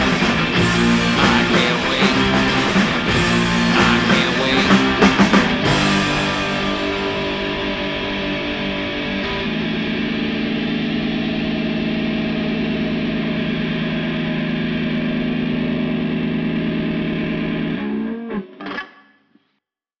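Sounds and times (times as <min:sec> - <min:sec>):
distorted electric guitar chord: 0:00.0 - 0:19.3.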